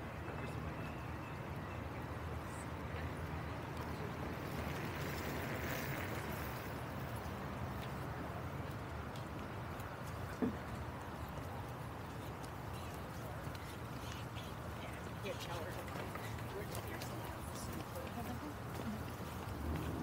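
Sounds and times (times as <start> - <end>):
low city rumble and hiss: 0.0 - 20.0.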